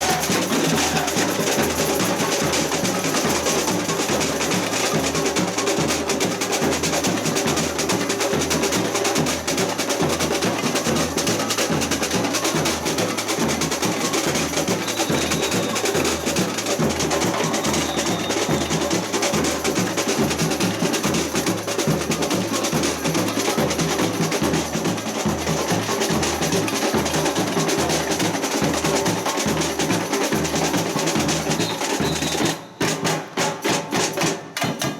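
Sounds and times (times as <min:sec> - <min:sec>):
small percussion clacking: 0:00.0 - 0:34.9
snare drums: 0:00.0 - 0:34.9.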